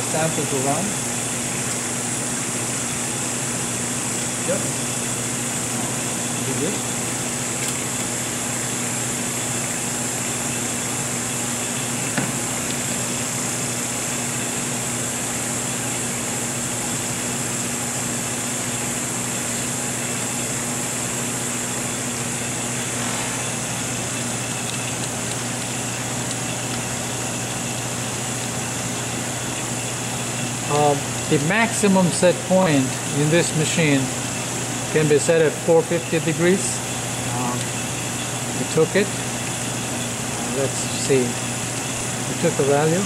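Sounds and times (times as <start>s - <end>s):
machinery low hum with hiss: 0.0s - 43.0s.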